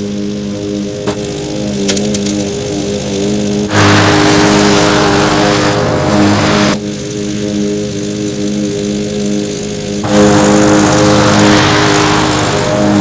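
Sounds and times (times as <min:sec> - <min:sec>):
lawn mower engine cutting grass: 0:00.0 - 0:13.0.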